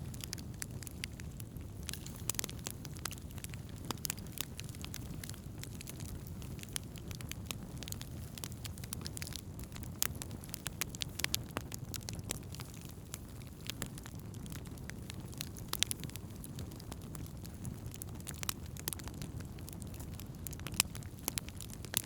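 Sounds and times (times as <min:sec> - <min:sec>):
burning wood crackling and popping: 0:00.0 - 0:22.0.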